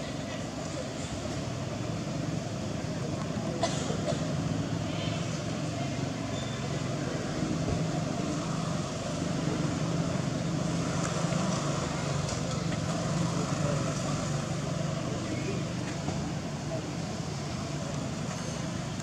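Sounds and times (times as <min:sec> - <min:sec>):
distant traffic rumble: 0:00.0 - 0:19.0.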